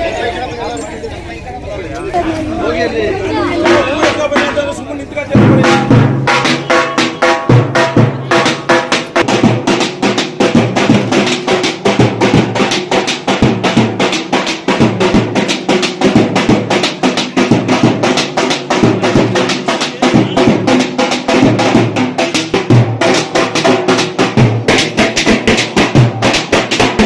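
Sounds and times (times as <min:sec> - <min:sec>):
loud fast drumming: 0:03.6 - 0:27.0.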